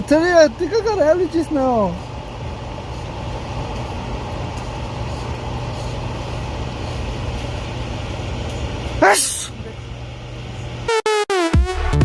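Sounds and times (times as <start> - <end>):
low mechanical rumble and hum: 0.0 - 10.9.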